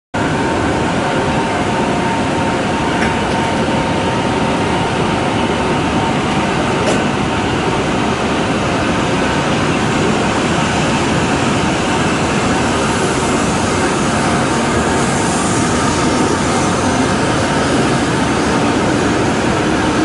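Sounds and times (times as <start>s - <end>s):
train rumble and hiss: 0.2s - 20.0s.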